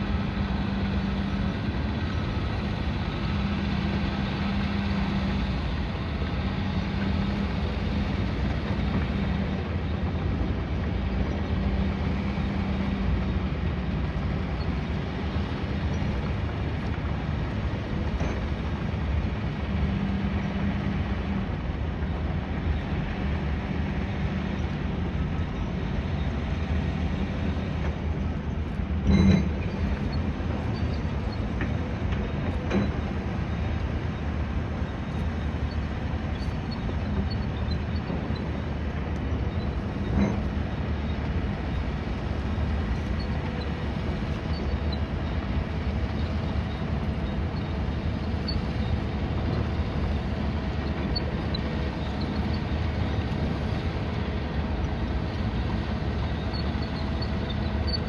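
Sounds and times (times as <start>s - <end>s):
city and construction rumble: 0.0s - 58.0s.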